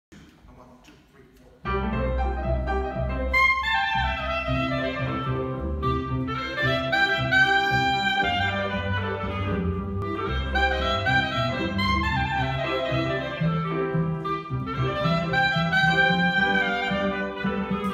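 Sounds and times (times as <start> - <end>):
piano: 1.6 - 17.9
clarinet melody: 1.7 - 17.9
double bass: 1.7 - 17.9.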